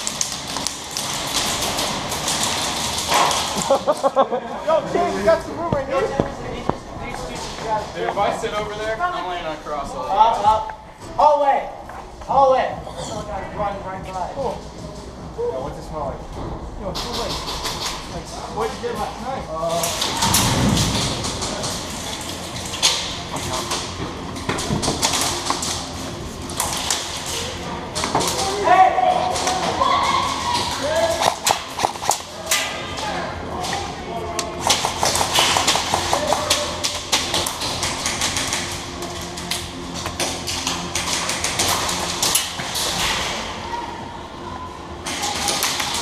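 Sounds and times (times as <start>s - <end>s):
footsteps: 4.8s - 43.1s.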